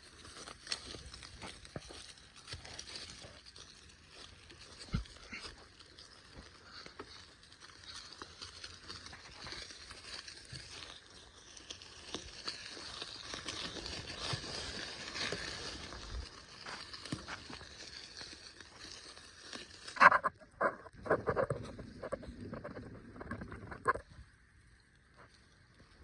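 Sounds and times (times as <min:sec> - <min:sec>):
bicycle tyres on dirt trail: 0:00.0 - 0:26.0.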